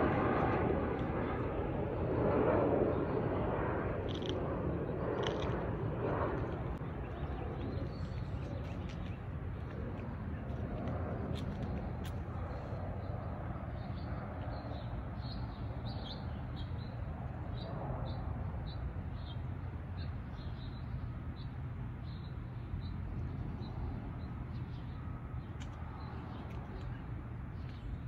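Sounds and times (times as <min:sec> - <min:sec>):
jet airliner rumble: 0:00.0 - 0:28.0.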